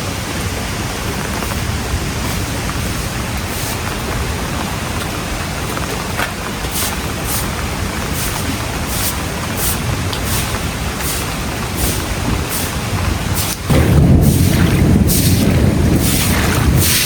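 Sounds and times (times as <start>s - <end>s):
heavy rain and rushing floodwater: 0.0s - 17.0s.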